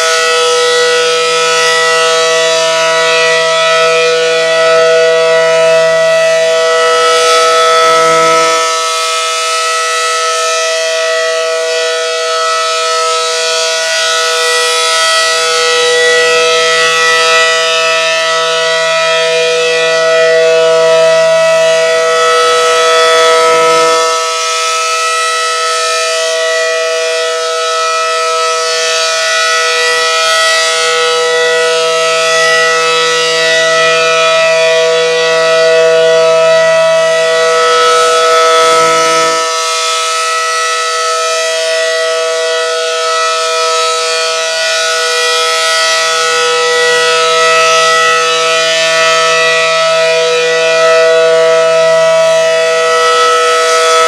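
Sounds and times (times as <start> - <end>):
warning siren steady tone: 0.0 - 54.0.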